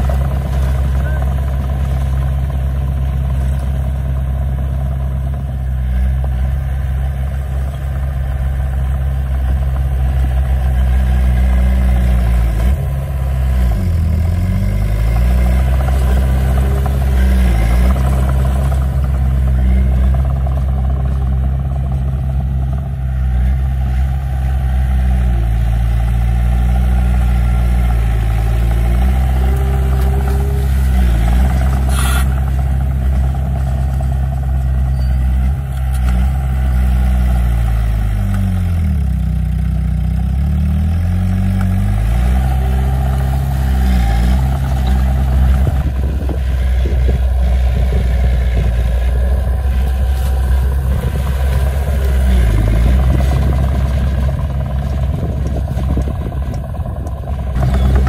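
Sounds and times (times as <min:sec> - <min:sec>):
bulldozer diesel engine running hard: 0:00.0 - 0:58.0.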